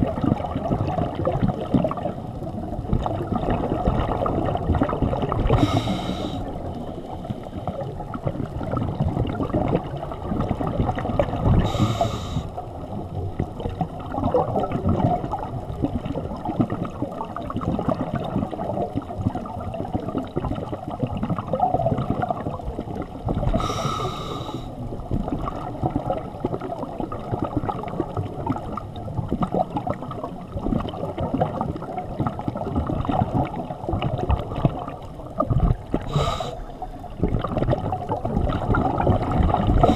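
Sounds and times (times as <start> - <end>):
underwater bubbles rushing: 0.0 - 39.9.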